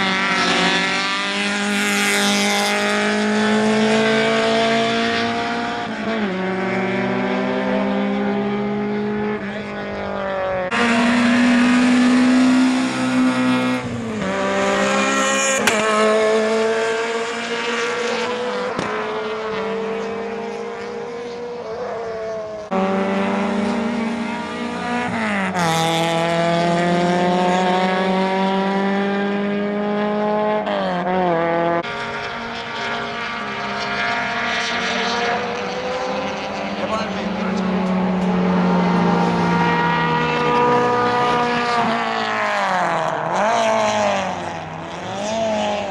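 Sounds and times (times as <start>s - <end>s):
rally car engines accelerating: 0.0s - 45.9s.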